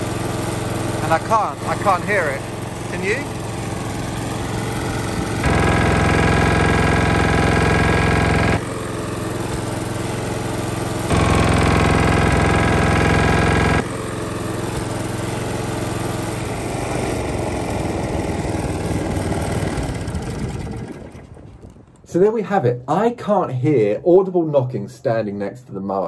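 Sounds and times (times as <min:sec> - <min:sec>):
engine knocking: 0:00.0 - 0:22.0
lawn mower engine running: 0:00.0 - 0:22.1.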